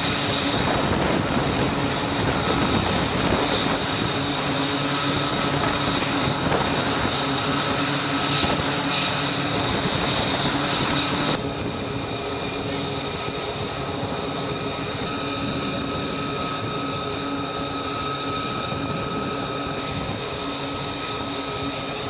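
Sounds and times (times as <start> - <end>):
aircraft engines running: 0.0 - 22.0.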